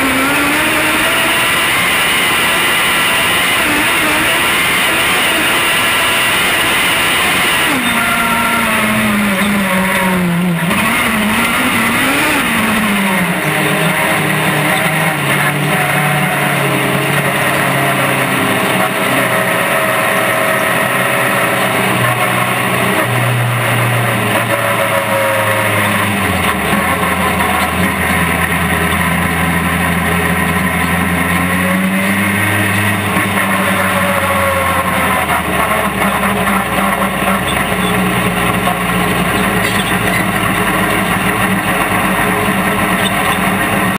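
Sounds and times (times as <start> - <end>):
race car engine running hard: 0.0 - 43.9.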